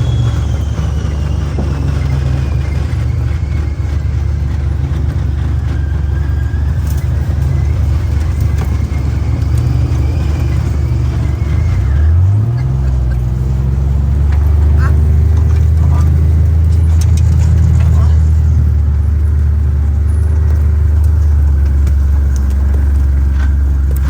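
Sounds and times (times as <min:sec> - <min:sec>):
utility vehicle engine running: 0:00.0 - 0:24.0.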